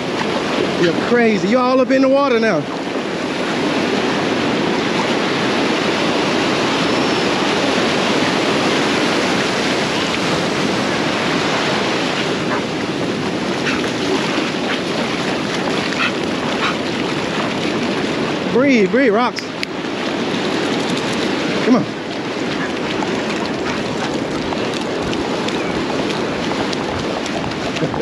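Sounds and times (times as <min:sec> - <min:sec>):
ocean surf washing: 0:00.0 - 0:28.0
wind buffeting microphone: 0:00.0 - 0:28.0.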